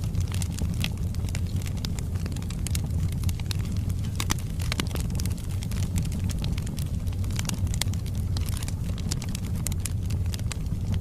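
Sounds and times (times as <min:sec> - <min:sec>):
low rumble of flames: 0:00.0 - 0:11.0
wood crackling and popping: 0:00.0 - 0:11.0.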